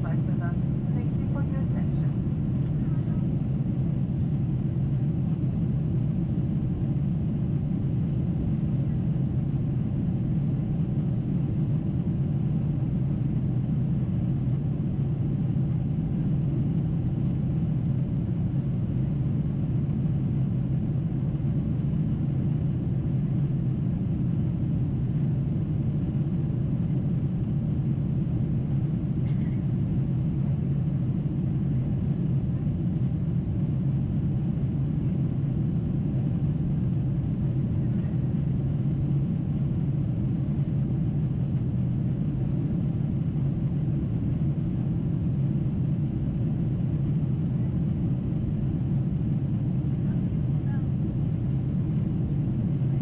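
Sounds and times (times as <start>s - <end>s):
airplane cabin drone: 0.0s - 53.0s.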